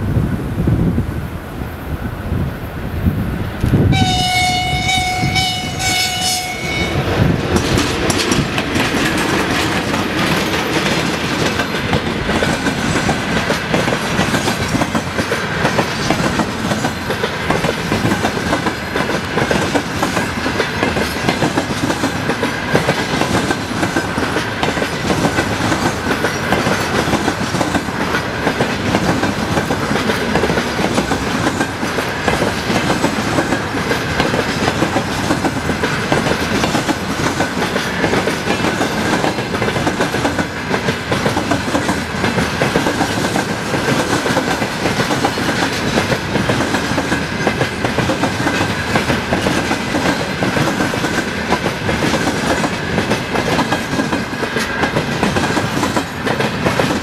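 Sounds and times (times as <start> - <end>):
train wheels clattering on rails: 3.6 - 57.0.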